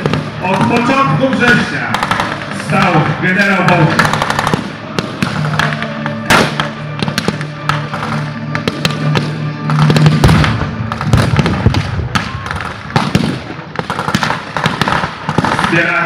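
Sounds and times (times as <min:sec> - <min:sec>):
pyrotechnic blasts: 0:00.0 - 0:16.0
rifle and machine gun fire: 0:01.8 - 0:03.0, 0:03.7 - 0:16.0.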